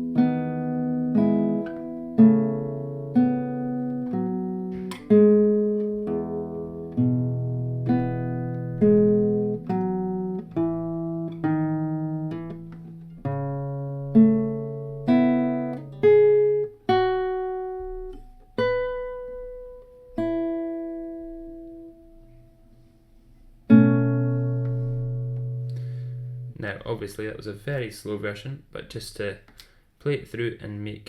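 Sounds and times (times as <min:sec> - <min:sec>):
guitar picked slowly: 0:00.0 - 0:26.6.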